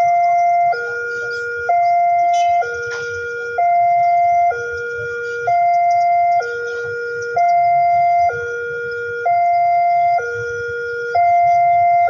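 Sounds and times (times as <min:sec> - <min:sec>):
two-tone hi-lo siren: 0:00.0 - 0:12.0.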